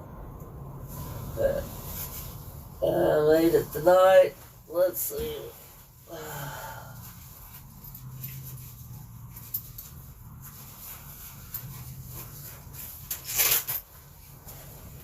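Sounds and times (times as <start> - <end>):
sleeping bag fabric rustling: 0.9 - 15.0.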